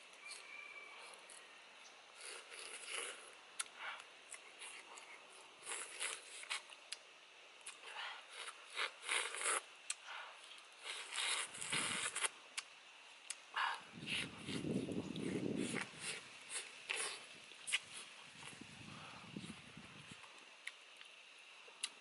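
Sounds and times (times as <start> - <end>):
person chewing and sucking food: 2.1 - 7.0, 7.6 - 22.0.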